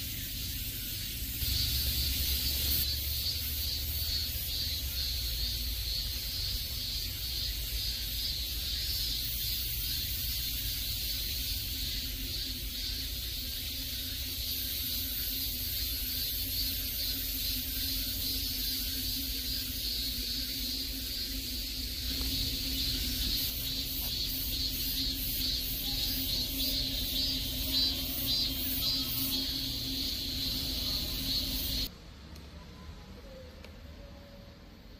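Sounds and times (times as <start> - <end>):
high hiss: 0.0 - 31.9.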